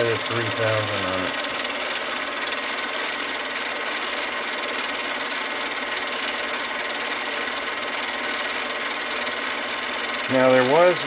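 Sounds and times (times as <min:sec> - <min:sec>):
lathe running: 0:00.0 - 0:11.0.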